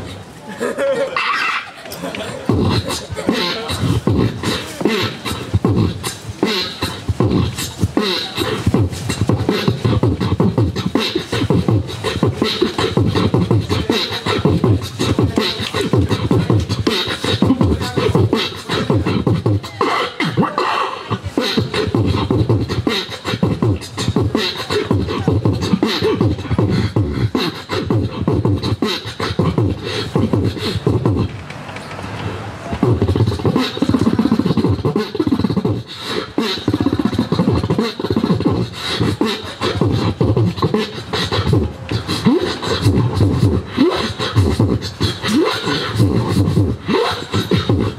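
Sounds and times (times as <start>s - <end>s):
person beatboxing into microphone: 1.1s - 31.4s, 32.7s - 47.9s.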